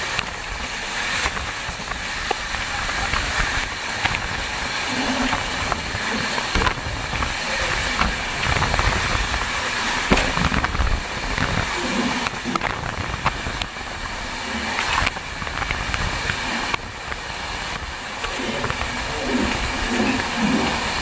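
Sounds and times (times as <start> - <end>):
sharp clicks and rattles: 0.0 - 21.0
train wheels on rails: 0.0 - 21.0.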